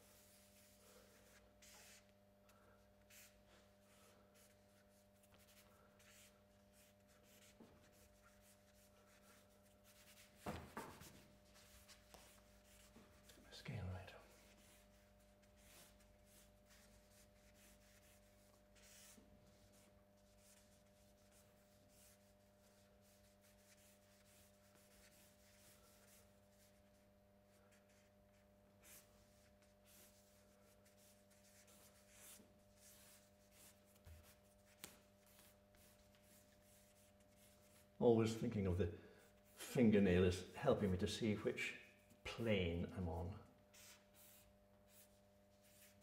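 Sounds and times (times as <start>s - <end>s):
drawing stick scratching on paper: 0.1s - 2.1s, 3.0s - 13.4s, 14.4s - 27.0s, 27.8s - 37.9s, 43.7s - 46.0s.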